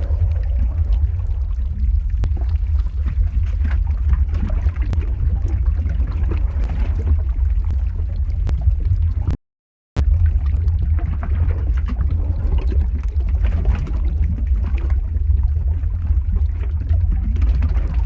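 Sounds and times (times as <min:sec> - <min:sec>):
crackles and pops: 0:00.0 - 0:09.4, 0:10.0 - 0:18.0
deep steady rumble: 0:00.0 - 0:09.4, 0:10.0 - 0:18.0.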